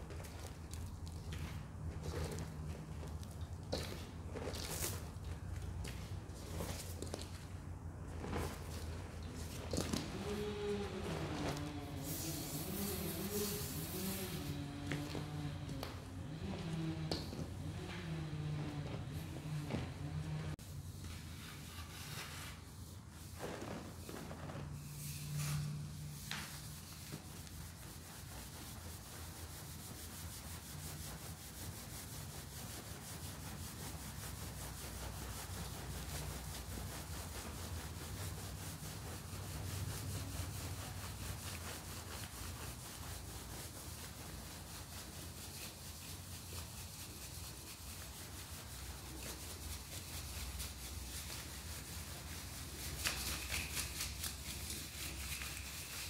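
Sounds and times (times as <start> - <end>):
powder sifting from metal bowl: 0.0 - 17.8, 21.0 - 56.0.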